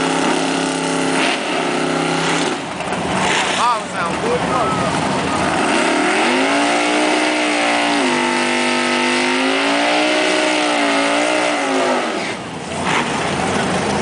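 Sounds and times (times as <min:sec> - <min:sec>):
car engine revving: 0:00.0 - 0:14.0
spinning tyres hissing: 0:00.0 - 0:14.0.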